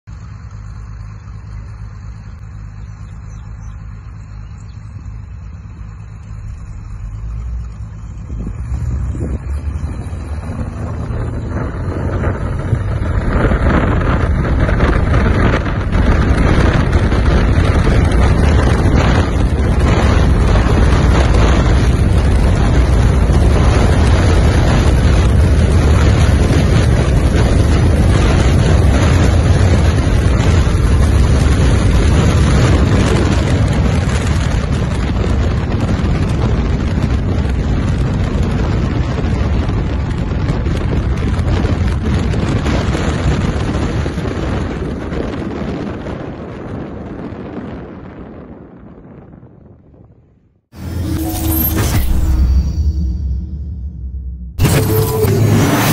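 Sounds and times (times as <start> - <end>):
propeller engine droning: 0.0 - 46.0, 50.7 - 55.9
wind buffeting microphone: 0.1 - 51.6.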